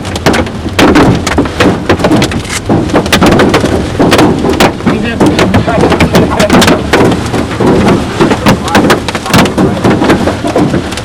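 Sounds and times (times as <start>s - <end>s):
hailstones banging on vehicle: 0.0s - 11.0s
rain: 0.0s - 11.0s
vehicle driving noise: 0.0s - 11.0s.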